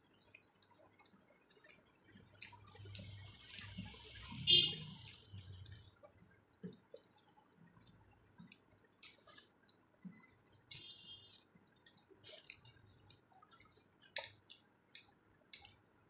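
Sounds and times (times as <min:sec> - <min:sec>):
wet eating sounds: 0:00.0 - 0:16.0.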